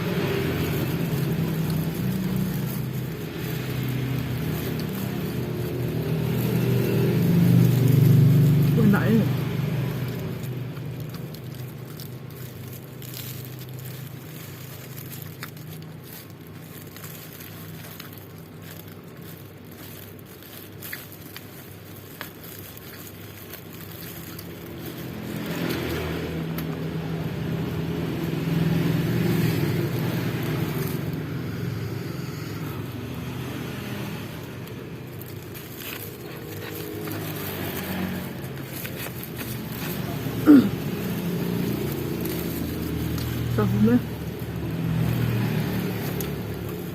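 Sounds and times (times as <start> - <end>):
traffic engine hum: 0.0 - 46.9
vehicle passing: 0.0 - 46.9.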